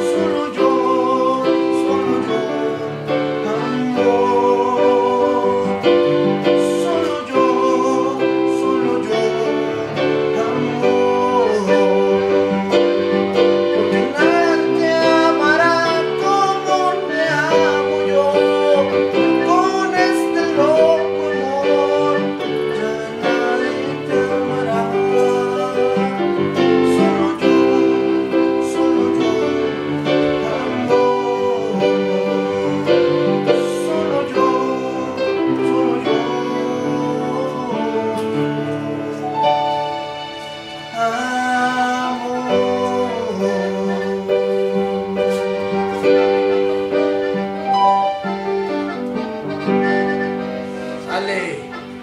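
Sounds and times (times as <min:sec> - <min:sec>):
electronic keyboard melody: 0:00.0 - 0:52.0.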